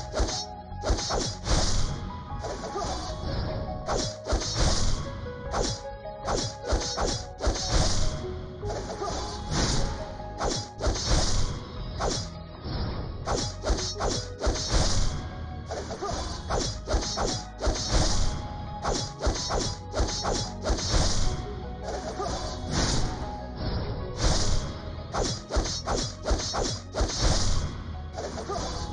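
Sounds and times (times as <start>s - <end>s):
background music: 0.0s - 28.9s.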